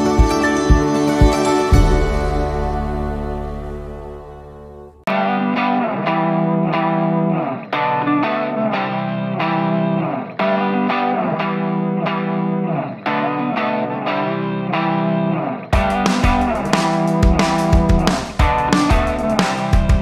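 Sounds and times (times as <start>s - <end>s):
electric guitar plucked notes: 0.0s - 20.0s.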